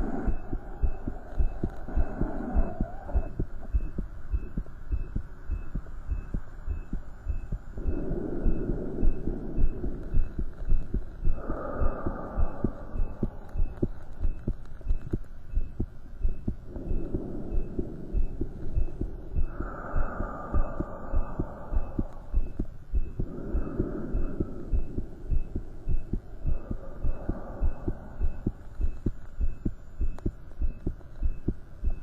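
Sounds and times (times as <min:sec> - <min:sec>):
heartbeat through stethoscope: 0:00.0 - 0:32.0.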